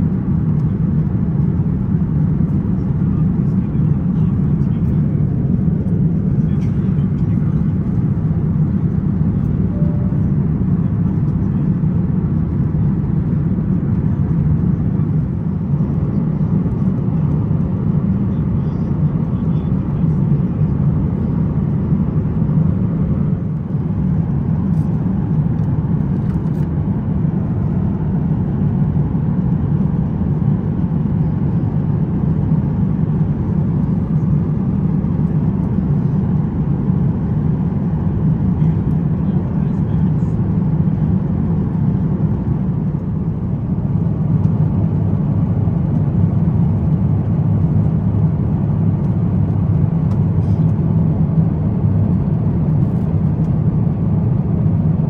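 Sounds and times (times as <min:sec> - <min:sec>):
airliner cabin engine and airflow noise: 0:00.0 - 0:55.0.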